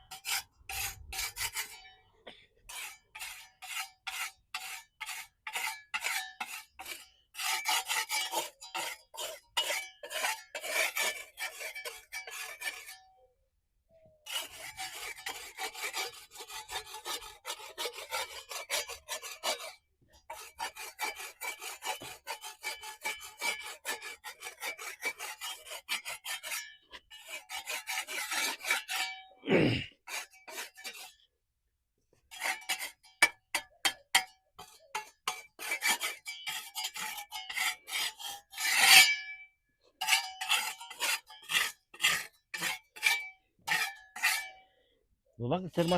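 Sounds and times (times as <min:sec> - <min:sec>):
hand tool scraping pool surface: 0:00.0 - 0:01.9, 0:02.6 - 0:13.0, 0:14.3 - 0:31.3, 0:32.3 - 0:44.6, 0:45.6 - 0:45.9.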